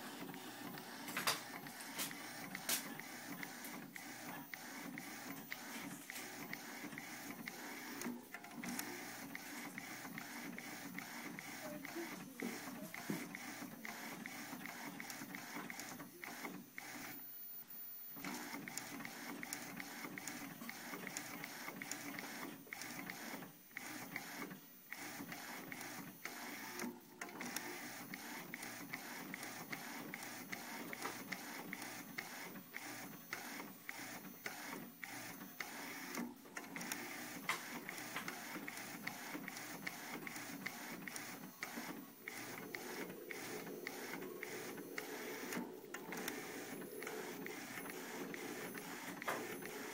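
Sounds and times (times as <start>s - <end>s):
printing machine whirring and clicking: 0.0s - 49.9s.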